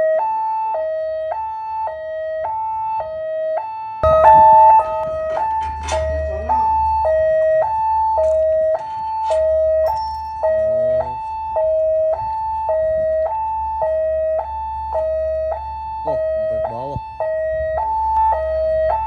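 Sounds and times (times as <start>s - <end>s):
two-tone warning siren: 0.0s - 19.0s.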